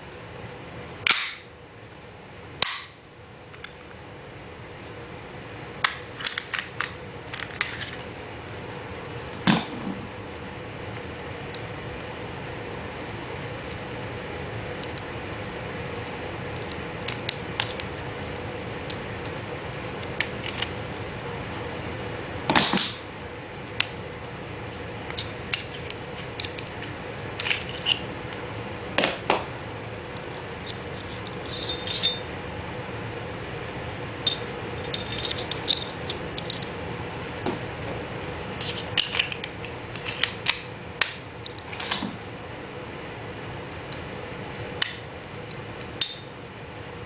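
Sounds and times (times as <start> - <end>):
faint hum: 0.0 - 47.0.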